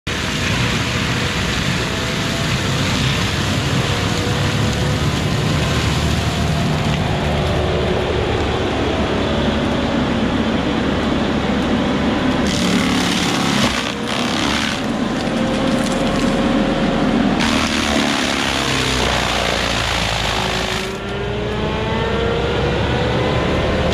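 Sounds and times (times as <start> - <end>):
diesel engine under load: 0.1 - 23.9.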